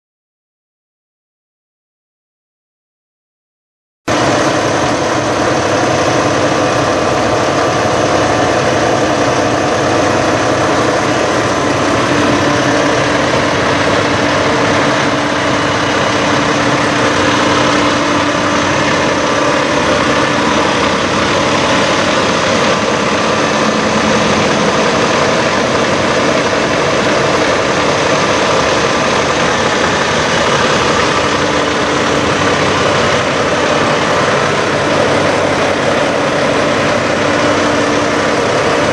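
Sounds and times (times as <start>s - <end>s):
diesel truck engine idling: 4.1s - 38.9s.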